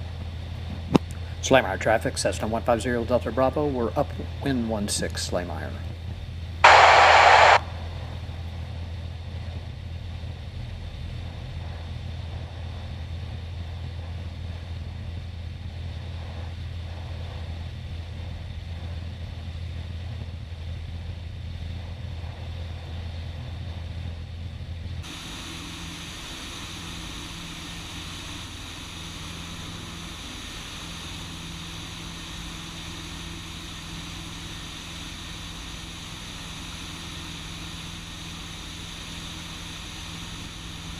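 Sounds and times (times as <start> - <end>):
airplane engine and propeller droning: 0.0 - 40.9.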